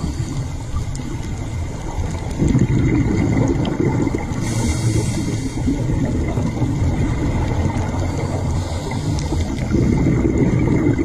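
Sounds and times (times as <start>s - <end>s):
underwater rumble of moving water: 0.0s - 11.0s.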